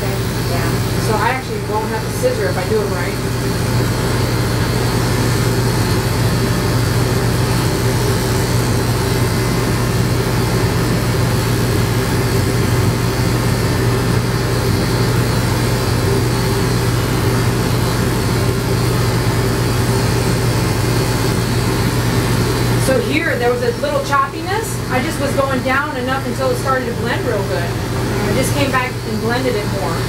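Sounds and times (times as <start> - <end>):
electric clippers humming: 0.0 - 30.0.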